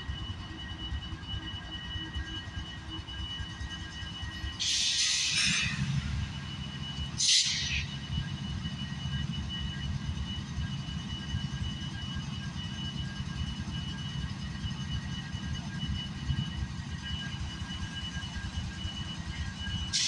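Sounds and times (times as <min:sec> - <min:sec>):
diesel locomotive idling: 0:00.0 - 0:20.0.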